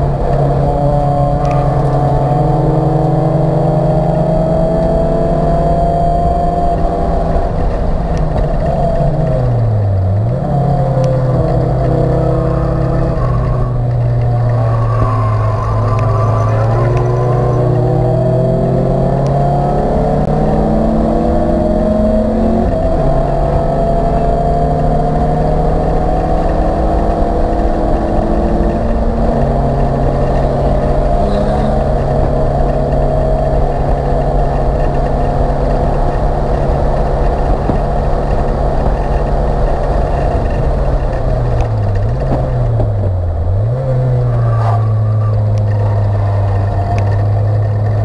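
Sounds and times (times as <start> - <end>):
race car engine at high revs: 0.0 - 48.0
wind and road noise: 0.0 - 48.0.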